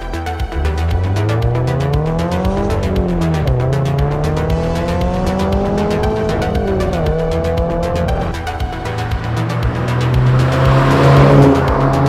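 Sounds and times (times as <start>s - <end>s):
background music with steady beat: 0.0s - 12.0s
car engine accelerating through gears: 0.3s - 12.0s.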